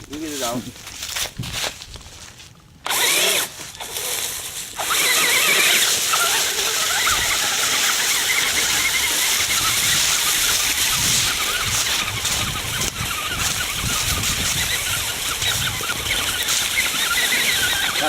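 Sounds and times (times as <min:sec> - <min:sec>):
tires churning through dry leaves: 0:00.0 - 0:18.0
toy truck motor whining: 0:02.8 - 0:18.0.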